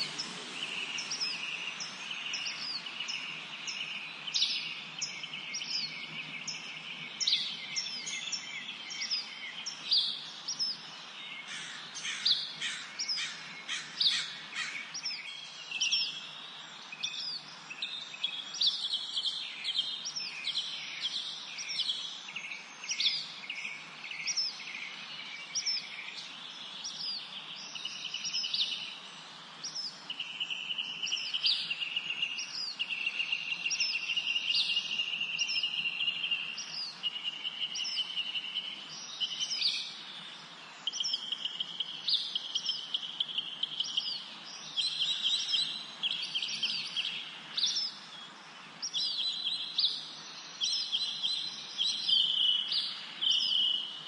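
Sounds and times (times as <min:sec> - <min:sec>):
faint background hiss: 0:00.0 - 0:54.0
songbirds singing: 0:00.0 - 0:54.0.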